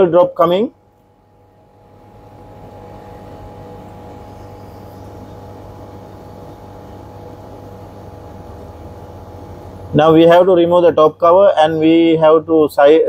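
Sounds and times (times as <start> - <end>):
faint constant whine: 0.0 - 13.0
tumble dryer humming: 0.0 - 13.0.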